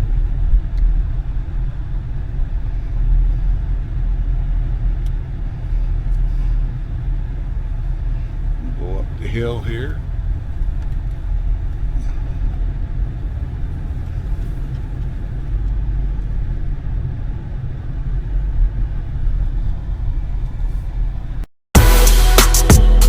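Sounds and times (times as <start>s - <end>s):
vehicle engine and road rumble: 0.0s - 21.5s.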